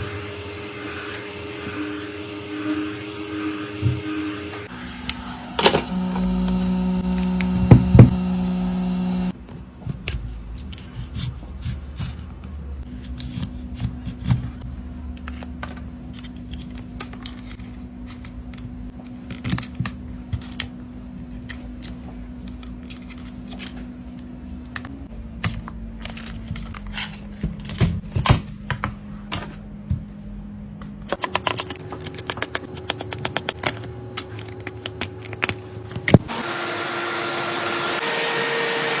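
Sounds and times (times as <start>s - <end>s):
low steady hum: 0.1s - 36.3s.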